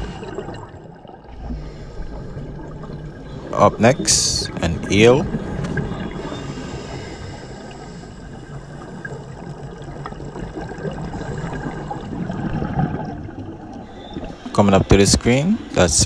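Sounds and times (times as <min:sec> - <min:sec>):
muffled underwater rushing: 0:00.0 - 0:16.0.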